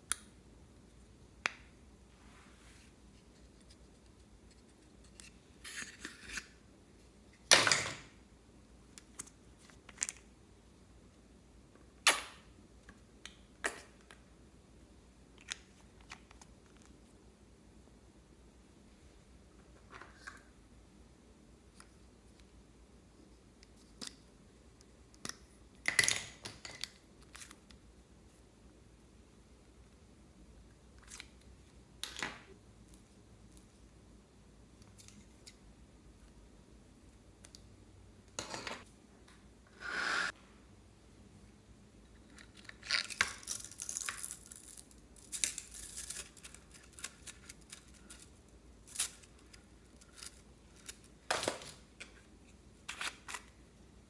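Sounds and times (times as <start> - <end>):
quiet room hiss: 0.0 - 54.0.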